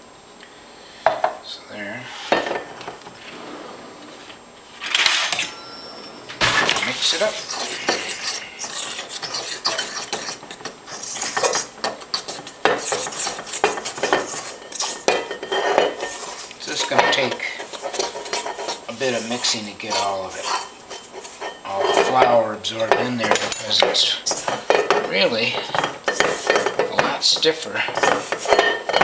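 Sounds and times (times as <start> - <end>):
utensil scraping metal bowl: 5.4 - 29.0.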